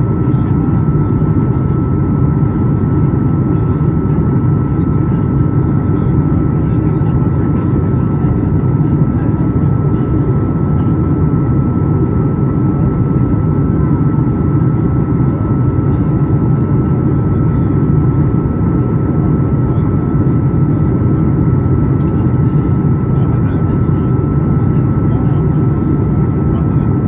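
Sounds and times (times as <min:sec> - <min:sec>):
jet engine rumble inside cabin: 0:00.0 - 0:27.0.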